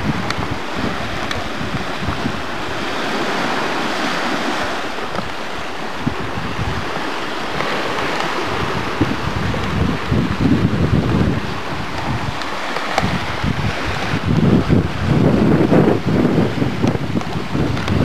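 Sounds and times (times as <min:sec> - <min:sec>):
wind buffeting microphone: 0:00.0 - 0:18.0
wind over sea: 0:00.0 - 0:18.0.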